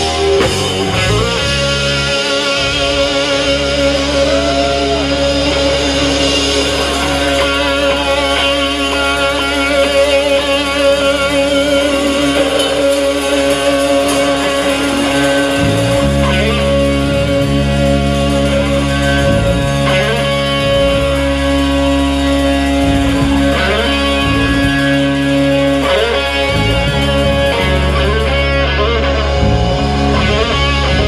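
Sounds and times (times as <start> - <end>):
electric guitar: 0.0 - 31.0
live rock band playing: 0.0 - 31.0.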